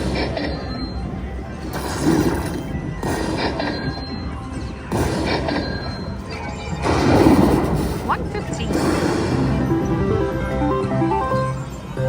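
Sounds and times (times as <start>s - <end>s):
slot machine electronic music: 0.0s - 12.0s.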